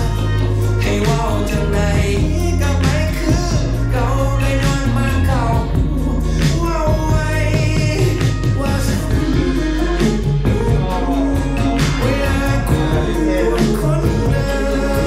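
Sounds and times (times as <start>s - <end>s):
heavy bass line: 0.0s - 15.0s
pop song singing: 0.0s - 15.0s
steady drum beat: 0.0s - 15.0s.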